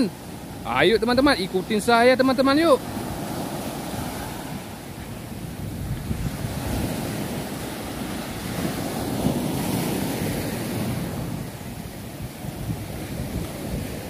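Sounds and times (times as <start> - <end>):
sea waves breaking on shore: 0.0 - 14.0
wind buffeting microphone: 2.6 - 14.0.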